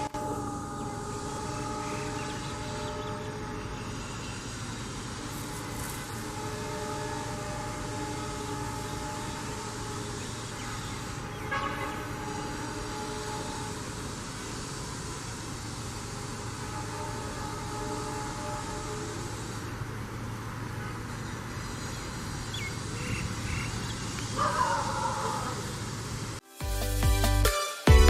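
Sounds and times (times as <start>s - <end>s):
locomotive horn chord: 0.0s - 26.1s
low locomotive engine rumble: 0.0s - 26.4s.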